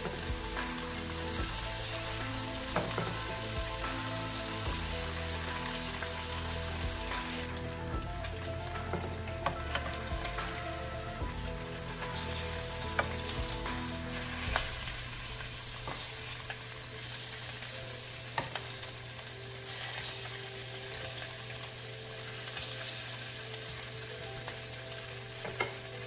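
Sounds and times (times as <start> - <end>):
bacon sizzling in a frying pan: 0.0 - 26.0.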